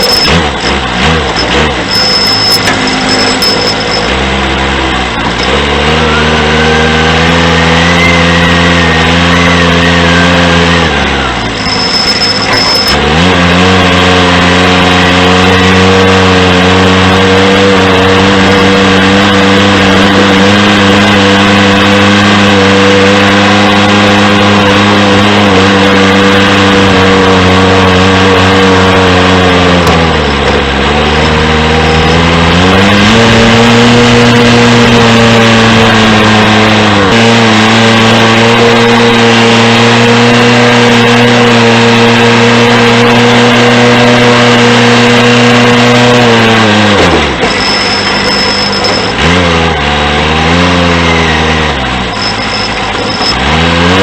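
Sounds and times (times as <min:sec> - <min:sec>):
backhoe diesel engine revving: 0:00.0 - 0:54.0.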